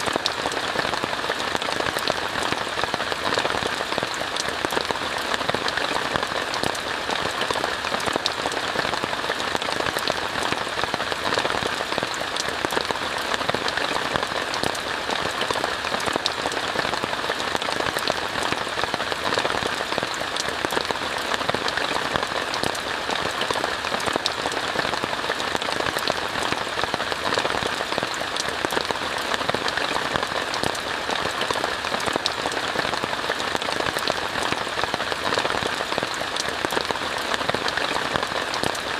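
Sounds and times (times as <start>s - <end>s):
rain falling on a tent: 0.0s - 38.9s.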